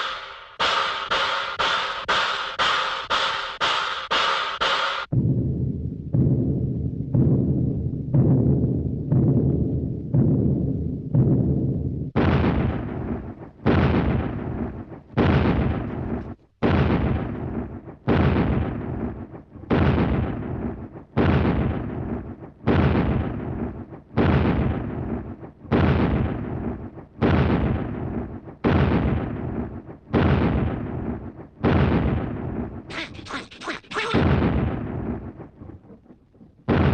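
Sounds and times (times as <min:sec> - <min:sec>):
loud booms: 0:05.0 - 0:33.0, 0:34.2 - 0:35.8, 0:36.7 - 0:36.9.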